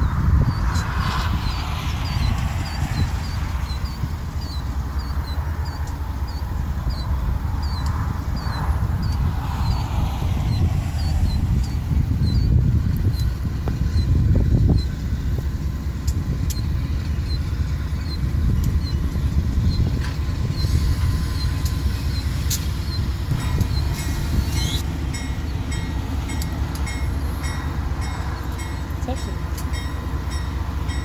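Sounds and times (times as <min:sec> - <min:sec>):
diesel locomotive rumbling past: 0:00.0 - 0:31.0.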